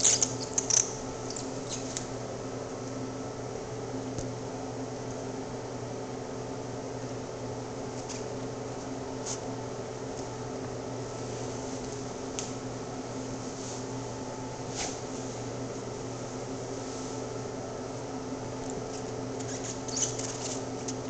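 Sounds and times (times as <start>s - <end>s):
machine hum with hiss: 0.0s - 21.0s.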